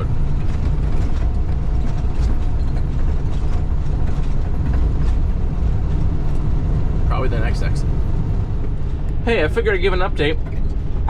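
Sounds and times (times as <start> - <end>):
tyre and wind noise: 0.0 - 9.4
diesel truck engine rumble: 0.0 - 11.0.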